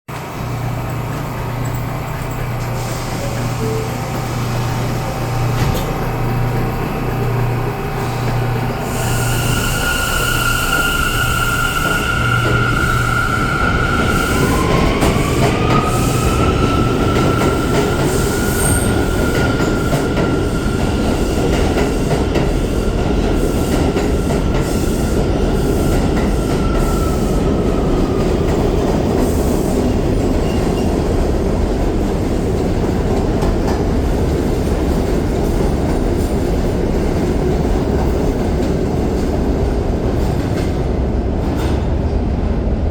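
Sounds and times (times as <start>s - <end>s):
subway train whine: 0.1s - 42.9s
train rumble and wheel clatter: 0.1s - 42.9s.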